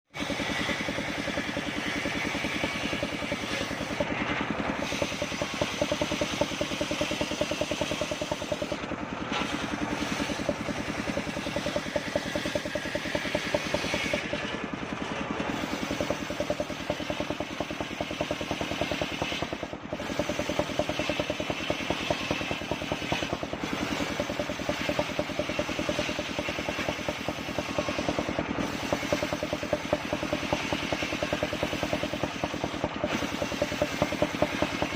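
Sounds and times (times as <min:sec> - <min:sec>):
sawmill engine running: 0:00.1 - 0:34.9.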